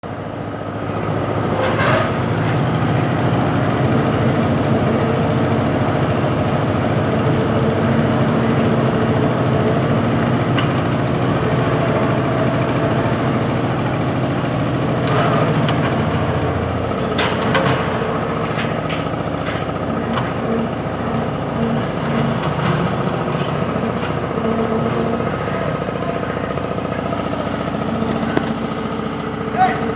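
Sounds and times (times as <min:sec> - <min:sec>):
hoist motor running: 0:01.4 - 0:29.9.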